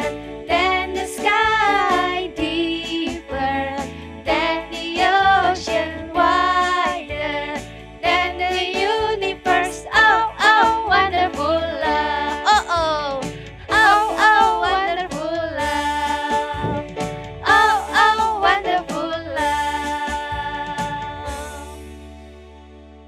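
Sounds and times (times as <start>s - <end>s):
women singing: 0.0s - 21.8s
pop backing track with beat: 0.0s - 22.4s.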